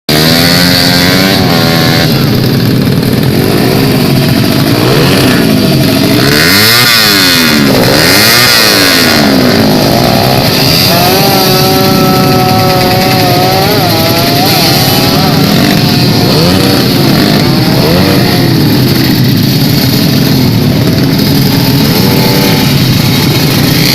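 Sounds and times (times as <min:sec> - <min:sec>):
motorcycle engines revving: 0:00.1 - 0:23.9.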